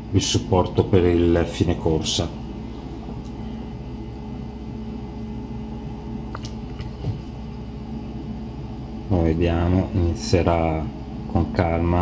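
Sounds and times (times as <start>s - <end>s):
printer electrical hum and whir: 0.0s - 12.0s.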